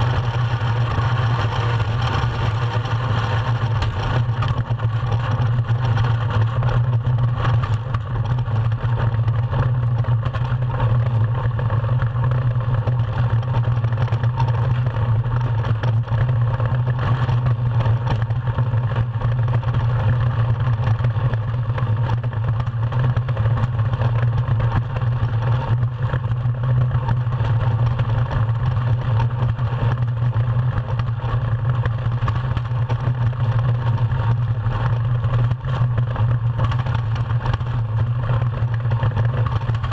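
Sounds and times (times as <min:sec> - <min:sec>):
runners rumbling over ice: 0:00.0 - 0:39.9.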